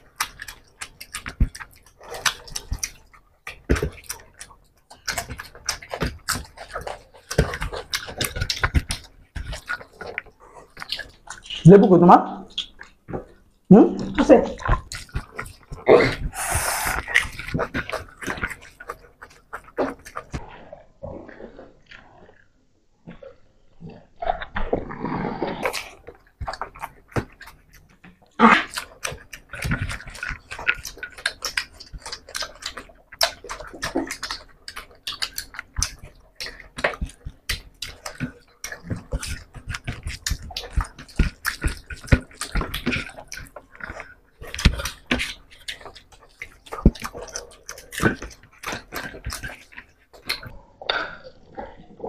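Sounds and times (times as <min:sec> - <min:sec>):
wet chewing and lip smacks: 0:00.0 - 0:22.4, 0:25.6 - 0:52.0.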